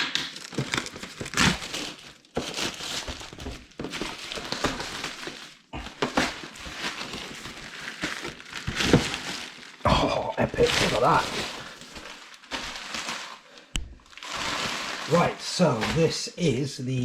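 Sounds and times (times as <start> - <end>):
packaging rustling and crinkling: 0.0 - 16.7.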